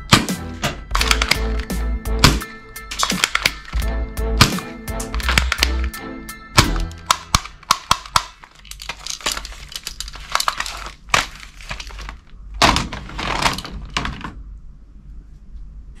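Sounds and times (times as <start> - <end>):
plastic toy guns clattering: 0.1 - 6.0, 6.6 - 14.4.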